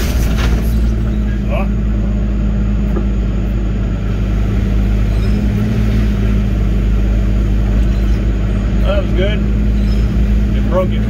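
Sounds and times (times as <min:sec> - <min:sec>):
excavator diesel engine humming: 0:00.0 - 0:11.0.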